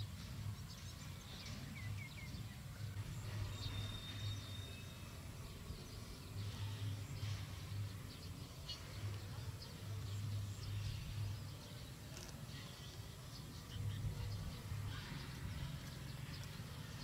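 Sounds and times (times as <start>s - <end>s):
faint bird chirps: 0.6s - 17.0s.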